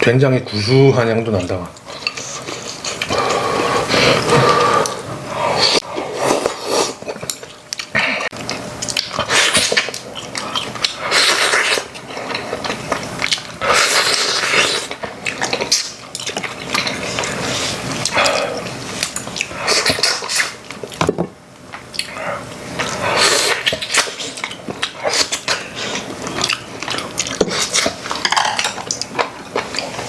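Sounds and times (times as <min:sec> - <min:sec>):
eating sounds: 0:00.4 - 0:21.1, 0:21.7 - 0:30.0.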